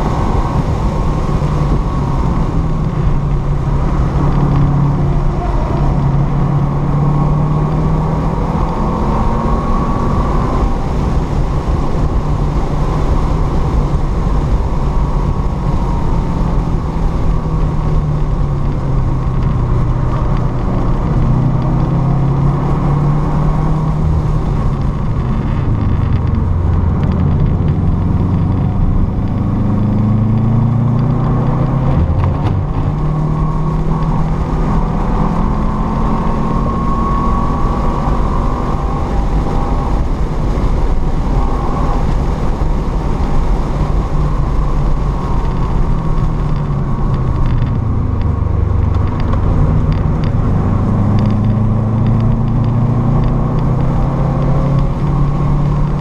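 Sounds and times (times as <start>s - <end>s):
car engine revving: 0.0s - 56.0s
wind and road noise: 0.0s - 56.0s.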